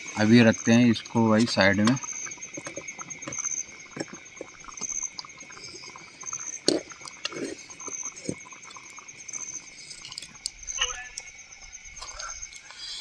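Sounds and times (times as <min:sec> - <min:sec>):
insects trilling: 0:00.0 - 0:13.0
pulsing chirp: 0:01.9 - 0:13.0.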